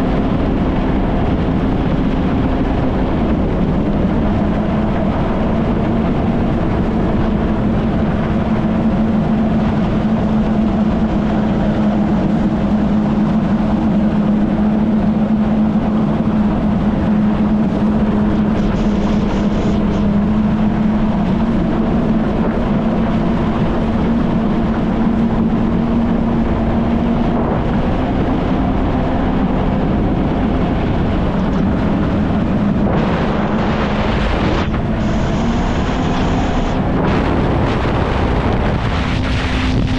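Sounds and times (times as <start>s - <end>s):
jet ski engine drone: 0.0s - 39.9s
rush of wind and water: 0.0s - 39.9s.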